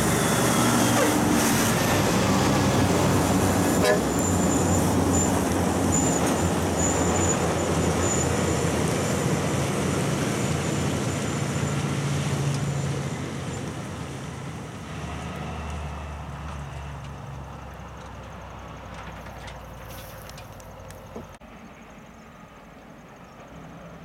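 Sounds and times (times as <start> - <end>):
log truck driving past: 0.0 - 21.8.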